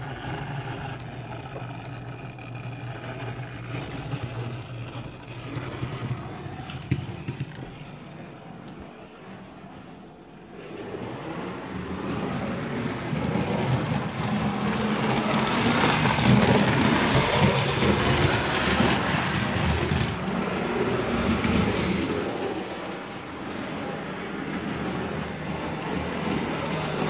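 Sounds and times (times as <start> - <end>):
model train wheels rumbling on rail: 0.0 - 9.8, 10.4 - 27.0.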